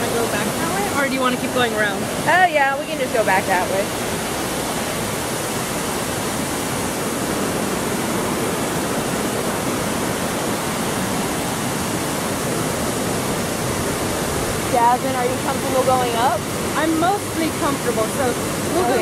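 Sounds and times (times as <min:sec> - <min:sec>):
water cascading down concrete steps: 0:00.0 - 0:19.0.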